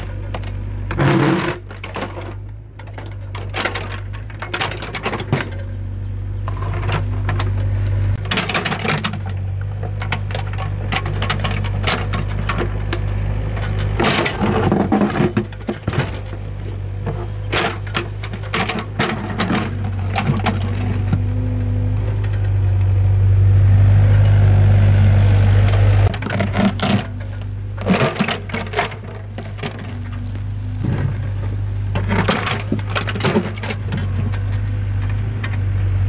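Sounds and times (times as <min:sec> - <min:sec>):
excavator engine humming: 0:00.0 - 0:36.0.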